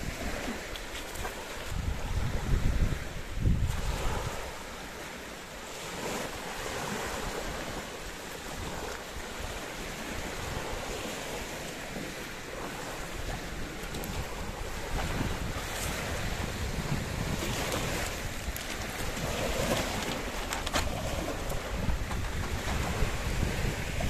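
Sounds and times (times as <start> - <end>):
wind buffeting microphone: 0.0 - 5.1, 5.7 - 24.0
small waves washing onto beach: 0.0 - 24.0.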